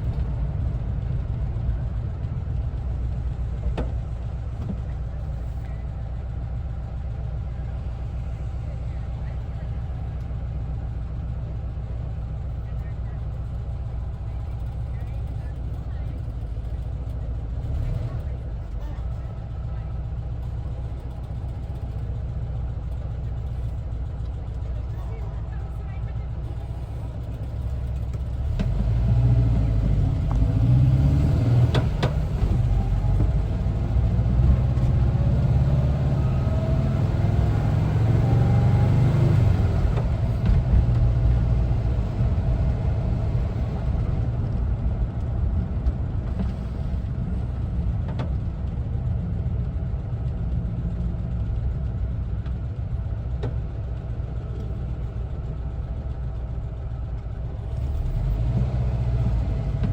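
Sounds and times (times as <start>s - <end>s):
van engine accelerating: 0.0s - 59.9s.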